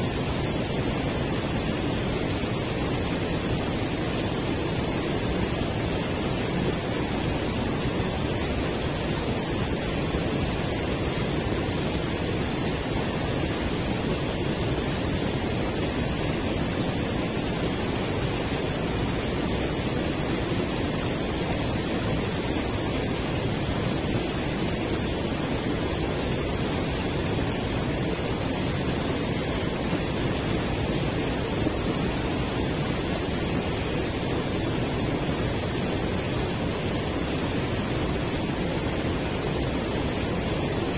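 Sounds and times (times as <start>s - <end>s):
water rushing over a weir: 0.0s - 40.9s.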